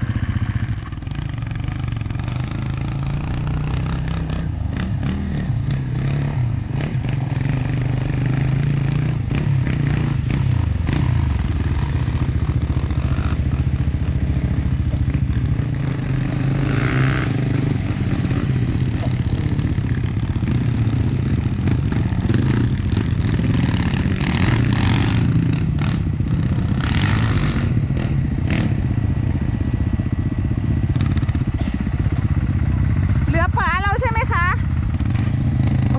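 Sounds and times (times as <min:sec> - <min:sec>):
dirt bike engine at low revs: 0:00.0 - 0:35.9.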